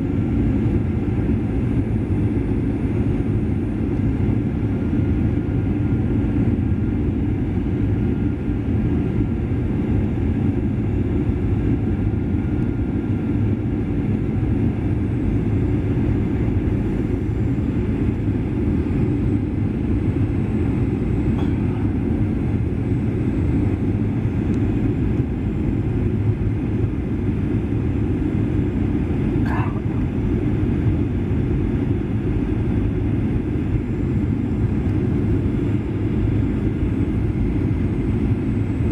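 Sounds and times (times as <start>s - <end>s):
airplane engine rumble in cabin: 0.0s - 38.9s.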